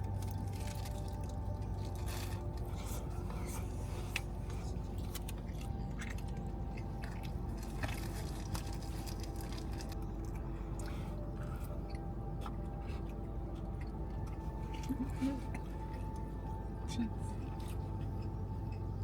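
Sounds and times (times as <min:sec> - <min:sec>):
low background tone: 0:00.0 - 0:19.0
wet chewing sounds: 0:00.0 - 0:19.0.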